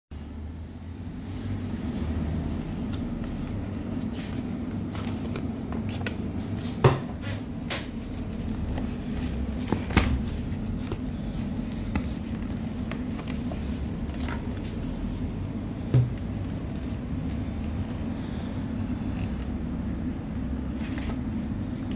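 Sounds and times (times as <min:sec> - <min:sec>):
steady low hum: 0:00.1 - 0:21.9.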